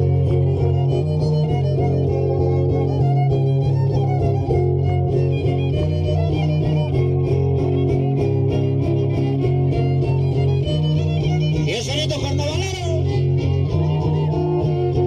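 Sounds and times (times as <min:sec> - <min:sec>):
strummed guitar: 0:00.0 - 0:15.0
violin melody: 0:00.0 - 0:15.0.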